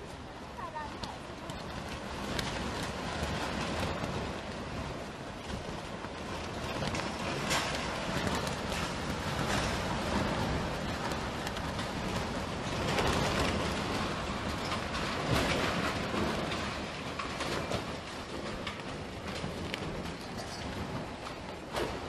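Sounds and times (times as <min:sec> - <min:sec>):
strong gusting wind: 0:00.0 - 0:22.0.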